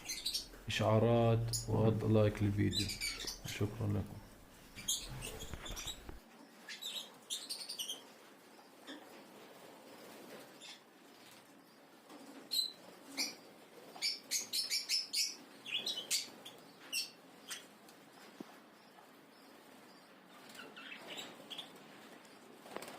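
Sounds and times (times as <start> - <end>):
pet birds chirping: 0.0 - 9.3, 9.9 - 22.9.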